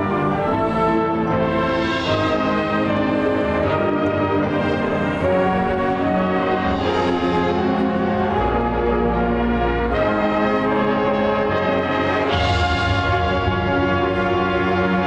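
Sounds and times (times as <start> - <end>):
brass held chords: 0.0 - 15.0
marching band playing: 0.0 - 15.0.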